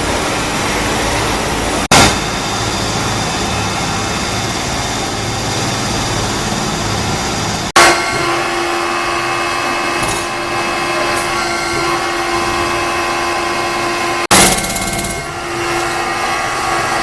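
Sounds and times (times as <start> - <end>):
power tool whining: 2.3 - 17.0.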